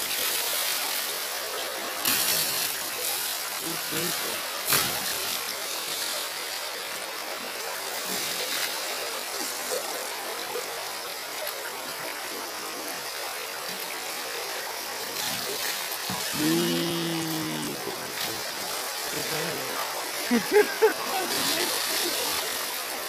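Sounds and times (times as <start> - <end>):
river water flowing: 0.0 - 23.0.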